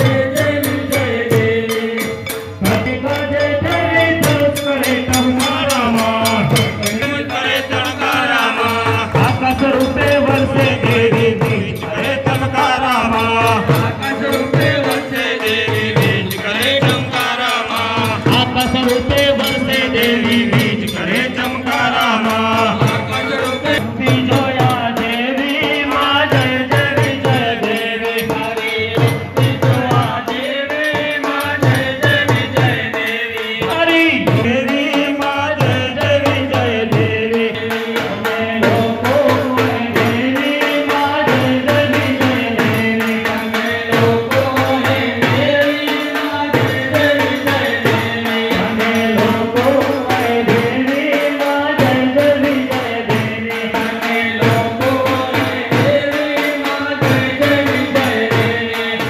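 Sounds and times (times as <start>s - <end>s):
devotional song through microphones: 0.0s - 59.0s
hand drum: 0.0s - 59.0s
rattling percussion: 0.0s - 59.0s.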